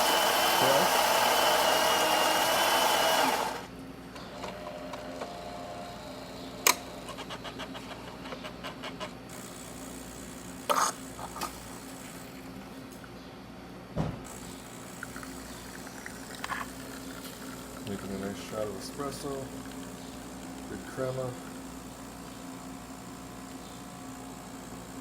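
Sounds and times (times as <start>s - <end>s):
coffee grinder running: 0.0s - 3.7s, 4.4s - 12.6s, 14.3s - 25.0s
espresso machine humming: 0.0s - 12.9s, 14.3s - 25.0s.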